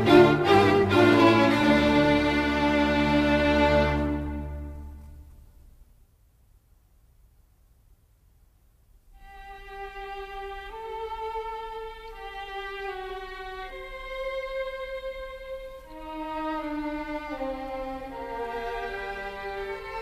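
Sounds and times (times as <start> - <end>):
bowed strings with violin: 0.0 - 5.4, 9.2 - 20.0.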